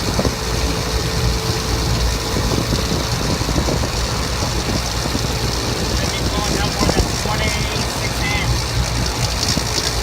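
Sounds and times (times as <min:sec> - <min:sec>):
compressor humming and rattling: 0:00.0 - 0:10.0.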